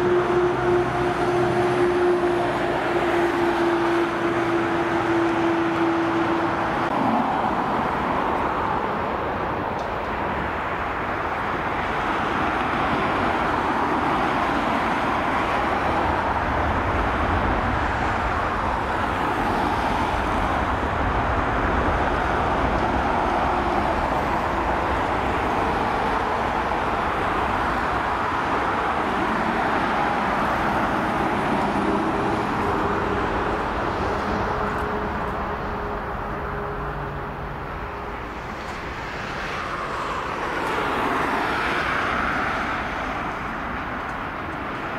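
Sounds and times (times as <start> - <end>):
jet engines at takeoff thrust: 0.0 - 44.9.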